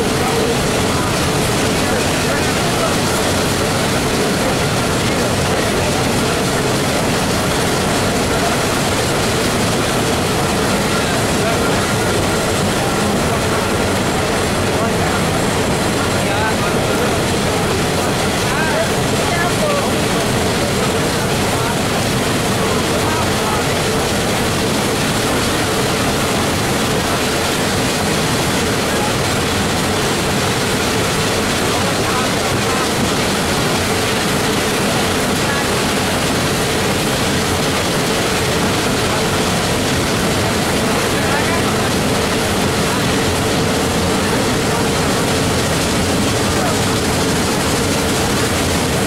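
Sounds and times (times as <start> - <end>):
steam locomotive running: 0.0 - 49.0
train cars rumbling on track: 0.0 - 49.0.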